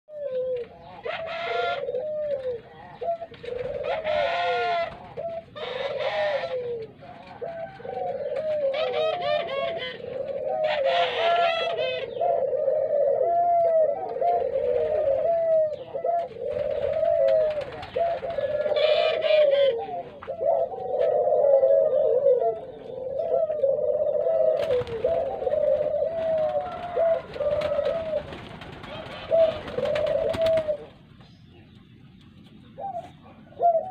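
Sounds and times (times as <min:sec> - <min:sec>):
louder higher dove calls: 0:00.1 - 0:30.9
doves cooing: 0:00.1 - 0:33.9.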